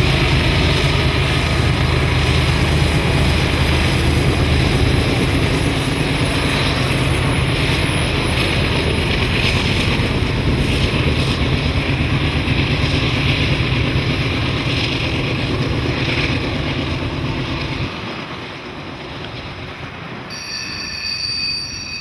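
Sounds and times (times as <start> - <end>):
diesel locomotive drone: 0.0 - 22.0
train rolling rumble: 0.0 - 22.0.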